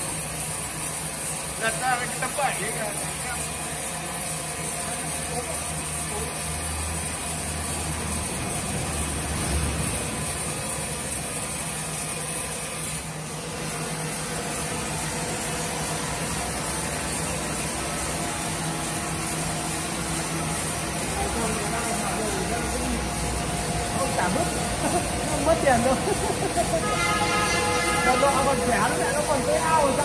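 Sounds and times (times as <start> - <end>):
sawmill machine humming: 0.0 - 30.0.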